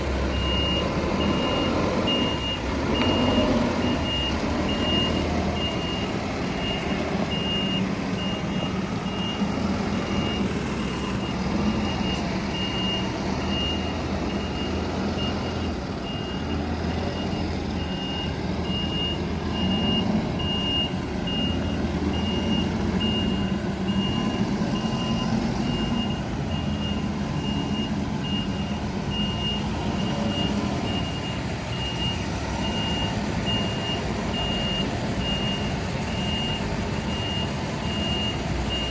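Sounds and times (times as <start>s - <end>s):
diesel engine running: 0.0s - 38.9s
reversing alarm beeping: 0.0s - 38.9s.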